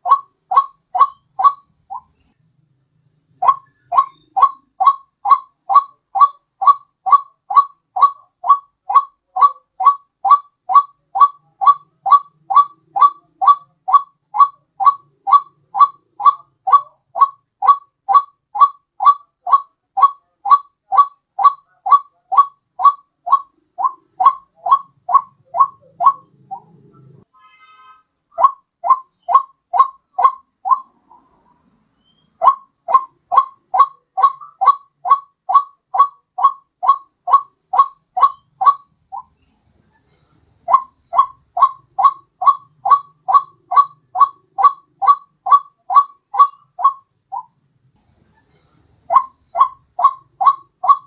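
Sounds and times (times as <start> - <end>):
waterhen call: 0.0 - 2.3, 3.4 - 26.8, 27.7 - 31.4, 32.0 - 39.3, 40.7 - 47.5, 49.1 - 51.0.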